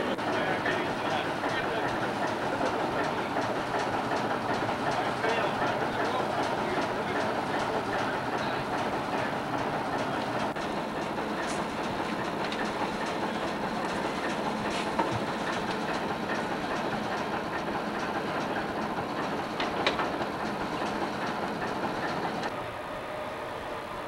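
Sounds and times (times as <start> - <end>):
steam motorcar hissing: 0.0 - 24.0.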